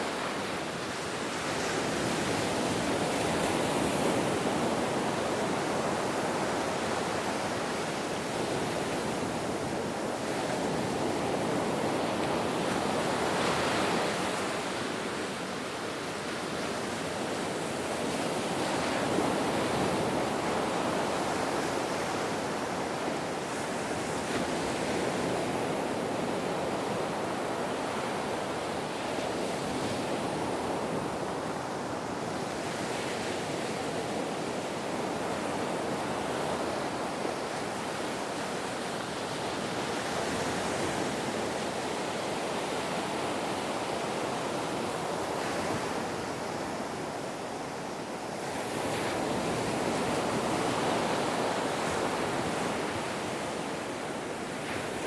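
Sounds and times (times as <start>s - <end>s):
ocean waves washing ashore: 0.0s - 55.0s.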